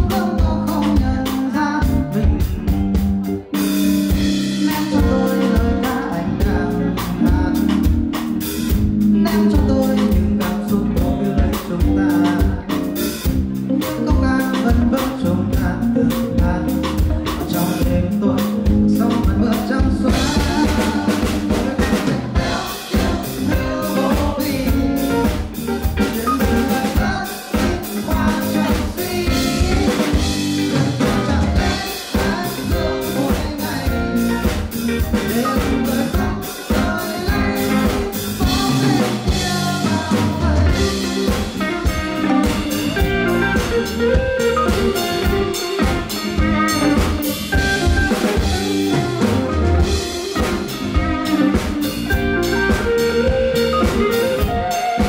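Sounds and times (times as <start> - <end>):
drum kit beat with cymbals: 0.0 - 55.0
live band playing: 0.0 - 55.0
man singing: 0.0 - 55.0.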